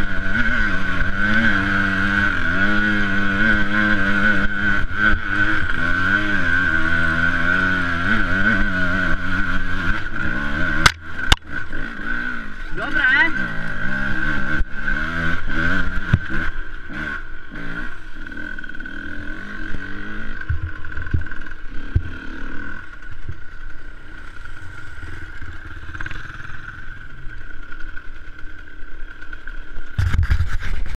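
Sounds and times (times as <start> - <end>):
dirt bike engine revving: 0.0 - 30.6.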